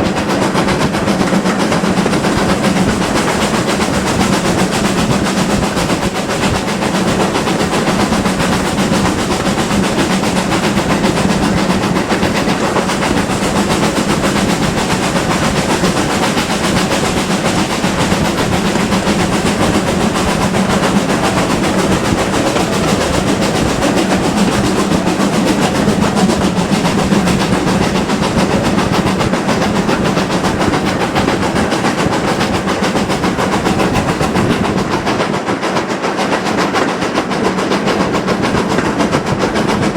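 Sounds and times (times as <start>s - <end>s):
steam train running: 0.0s - 39.9s
train wheels on rails: 0.0s - 39.9s.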